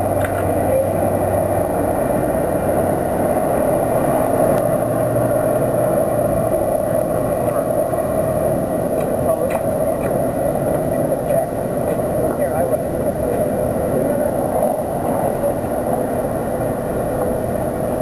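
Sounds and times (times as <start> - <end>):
passing car traffic: 0.0 - 18.0.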